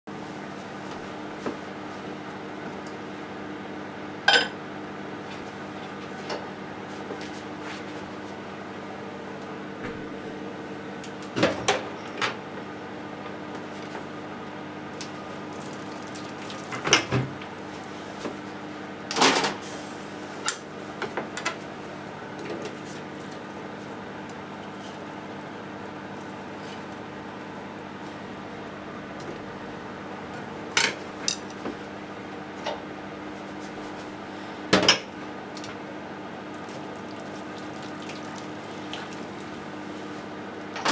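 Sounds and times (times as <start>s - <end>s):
steady background hum: 0.1s - 40.9s.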